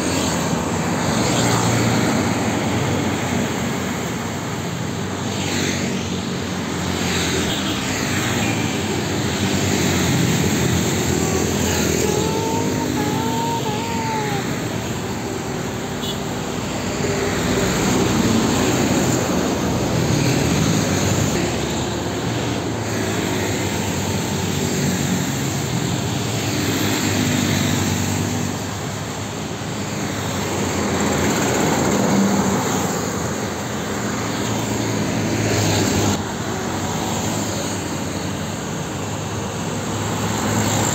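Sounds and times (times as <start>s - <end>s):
diesel trucks passing: 0.0s - 40.9s
motorcycles passing: 0.0s - 40.9s.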